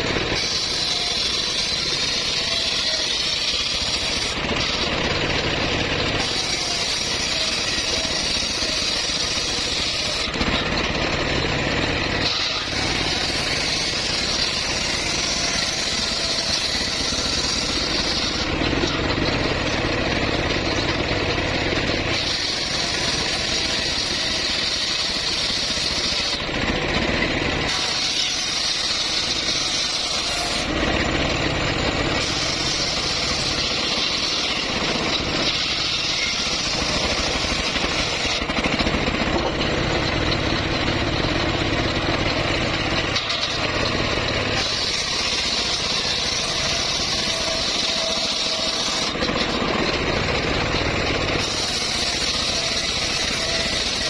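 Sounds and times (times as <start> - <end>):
bandsaw running: 0.0 - 54.0.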